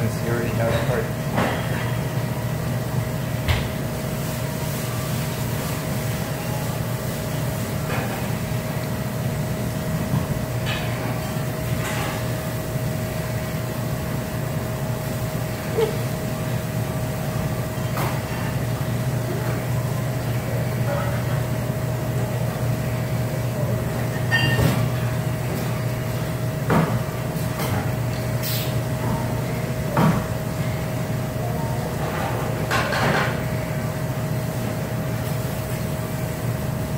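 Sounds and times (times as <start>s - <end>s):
low machine hum: 0.0s - 36.9s.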